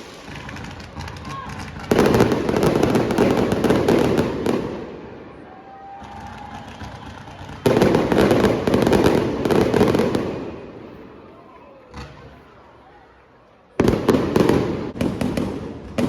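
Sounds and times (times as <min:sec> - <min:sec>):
fireworks crackling: 0:00.0 - 0:12.6, 0:13.7 - 0:16.0.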